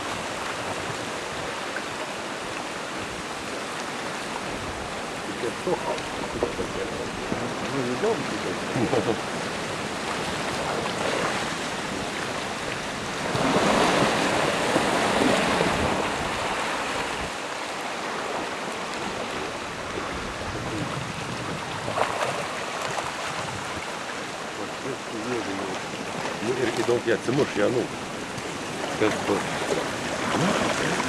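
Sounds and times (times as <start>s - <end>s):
river water rushing with ice: 0.0s - 31.0s.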